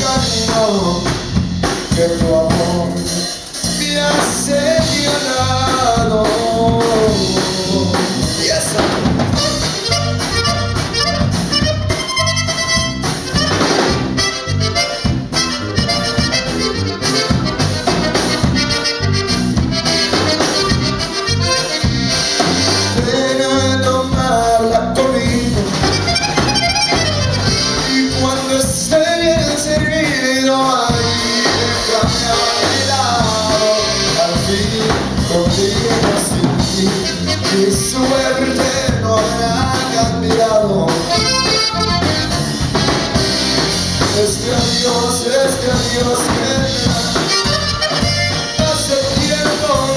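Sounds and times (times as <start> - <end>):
accordion melody: 0.0 - 49.9
bass: 0.0 - 49.9
drums: 0.0 - 49.9
live band playing: 0.0 - 49.9.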